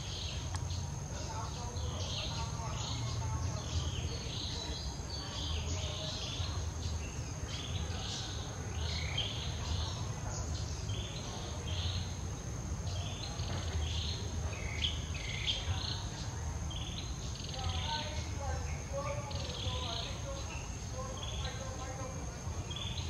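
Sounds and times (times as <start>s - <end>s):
insects buzzing drone: 0.0s - 23.0s.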